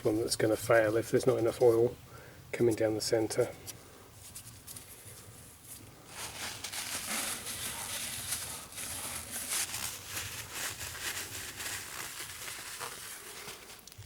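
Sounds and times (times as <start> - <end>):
hands rubbing and scraping parts: 0.0 - 1.9, 2.6 - 14.0.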